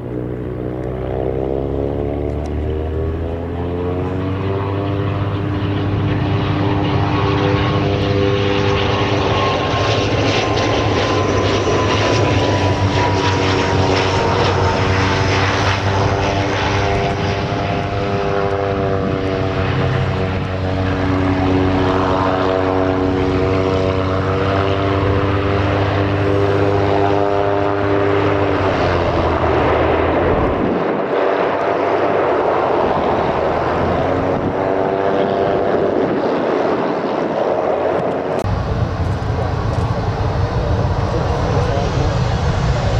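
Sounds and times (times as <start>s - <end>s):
turboprop plane landing: 0.0s - 42.9s.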